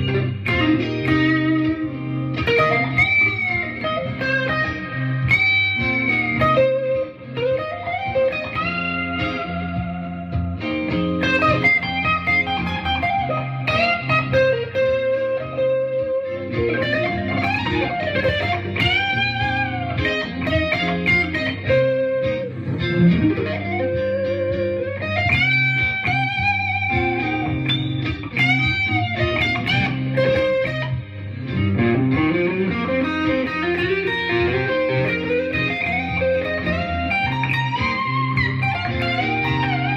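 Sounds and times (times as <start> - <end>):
blues chord loop: 0.0 - 39.9
electric guitar blues lead: 0.0 - 39.9.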